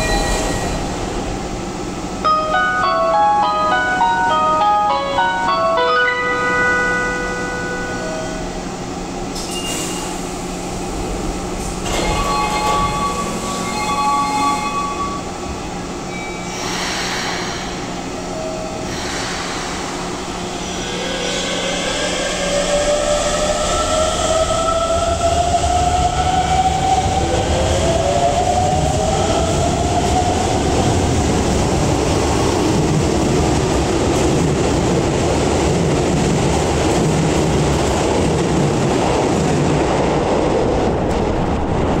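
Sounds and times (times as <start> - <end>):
wheels rumbling on rail: 6.4 - 42.0.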